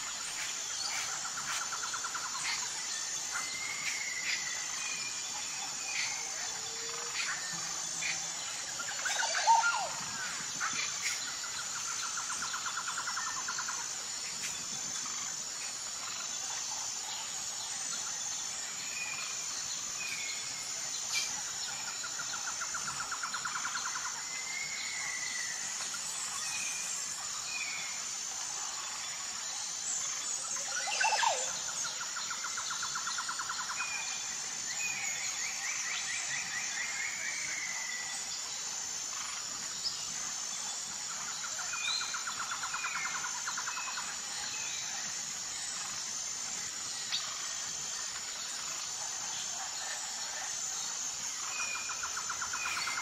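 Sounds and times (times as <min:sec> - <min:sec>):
high insect drone: 0:00.0 - 0:53.0.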